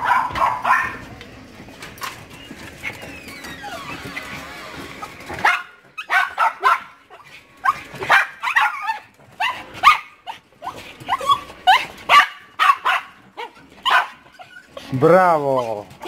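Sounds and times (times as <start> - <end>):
small dogs yipping and whining: 2.0 - 15.0.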